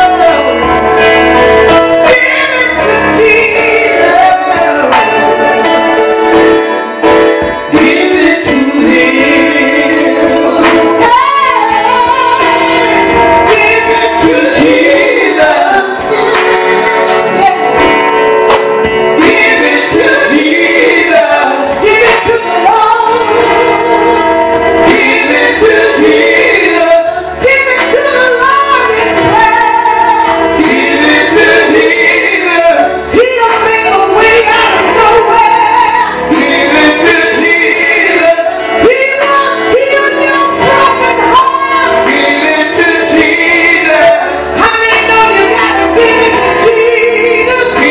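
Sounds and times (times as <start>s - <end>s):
held instrumental chords: 0.0s - 47.9s
woman singing into a microphone: 1.7s - 5.1s, 7.6s - 18.1s, 19.2s - 47.9s.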